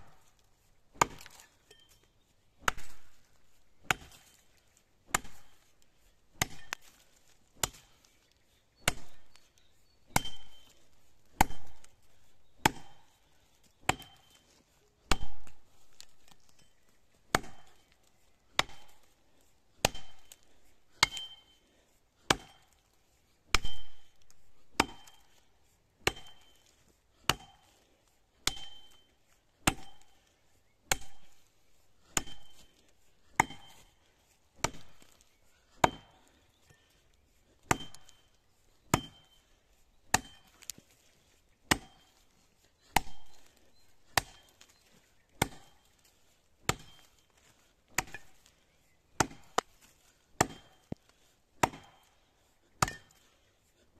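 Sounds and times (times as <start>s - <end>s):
axe chopping tree trunk: 0.0s - 1.8s, 2.6s - 8.1s, 8.8s - 9.4s, 10.1s - 19.1s, 19.7s - 21.6s, 22.2s - 22.8s, 23.5s - 25.4s, 26.0s - 34.0s, 34.6s - 36.8s, 37.6s - 38.3s, 38.9s - 39.4s, 40.0s - 48.5s, 49.2s - 53.4s.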